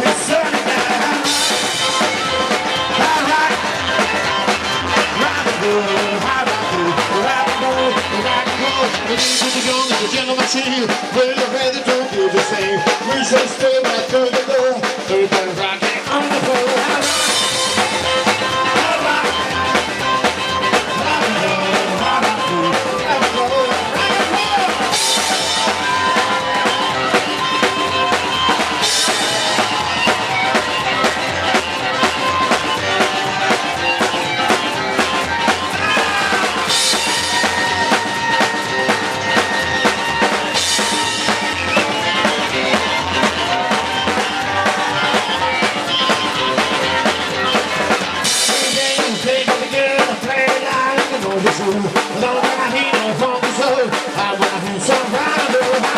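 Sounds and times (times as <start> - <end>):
drum kit fast beat: 0.0 - 55.9
rock and roll band playing: 0.0 - 55.9.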